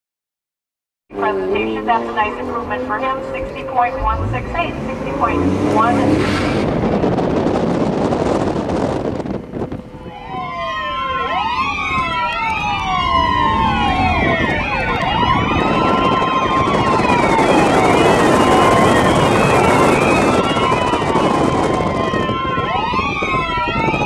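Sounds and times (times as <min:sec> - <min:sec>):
car engine: 0:01.1 - 0:21.9
police sirens wailing: 0:01.1 - 0:24.0
road noise: 0:01.1 - 0:24.0.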